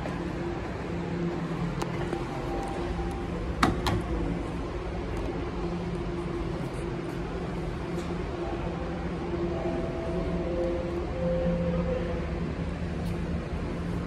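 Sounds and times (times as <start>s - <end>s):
subway station machinery hum: 0.0s - 14.0s.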